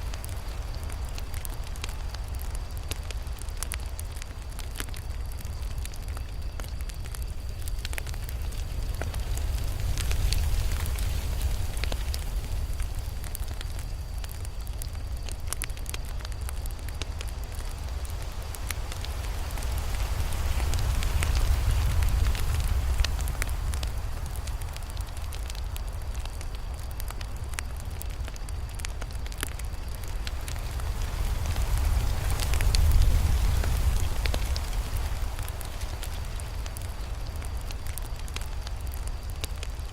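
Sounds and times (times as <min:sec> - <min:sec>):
campfire flames rumbling: 0:00.0 - 0:39.9
wood crackling and popping: 0:00.0 - 0:39.9.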